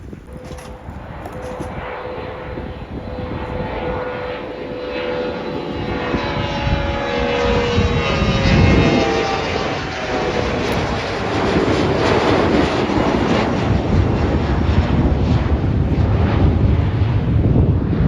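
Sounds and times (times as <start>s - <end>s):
airplane engines roaring: 0.0s - 18.0s
wind rumbling on microphone: 0.0s - 18.0s.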